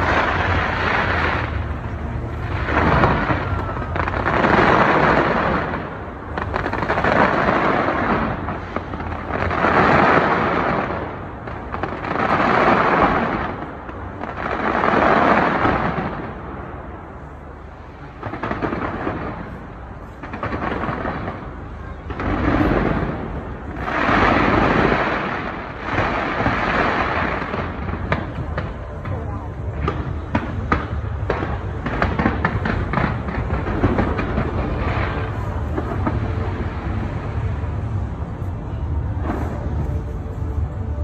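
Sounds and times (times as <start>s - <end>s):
steady low rumble: 0.0s - 14.9s, 15.5s - 41.0s
fireworks crackling and exploding: 0.0s - 41.0s.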